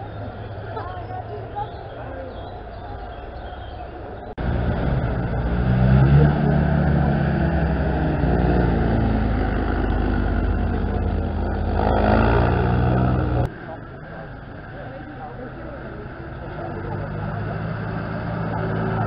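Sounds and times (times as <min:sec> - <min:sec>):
jeep engine driving: 0:00.0 - 0:19.0.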